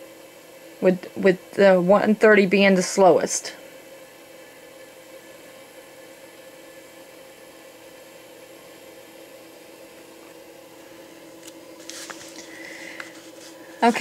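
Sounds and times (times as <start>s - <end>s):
low hum with steady tones: 0.0s - 14.0s.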